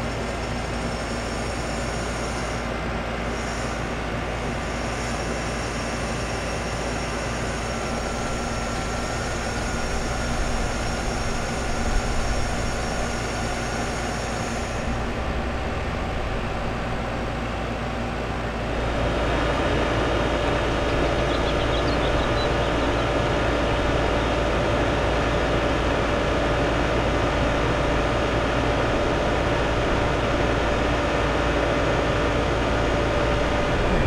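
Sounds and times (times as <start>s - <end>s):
air conditioner unit humming: 2.8s - 34.0s.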